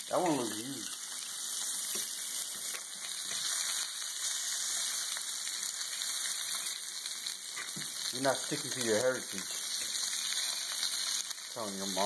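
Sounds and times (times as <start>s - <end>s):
bacon sizzling on a griddle: 0.0s - 12.0s.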